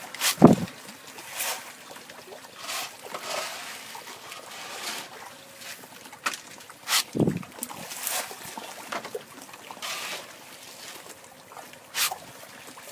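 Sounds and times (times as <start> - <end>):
fish splashing at water surface: 0.0 - 12.9.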